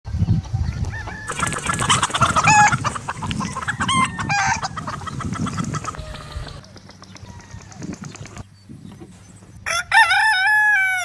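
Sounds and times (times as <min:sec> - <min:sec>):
chickens clucking and cackling: 0:00.2 - 0:11.0.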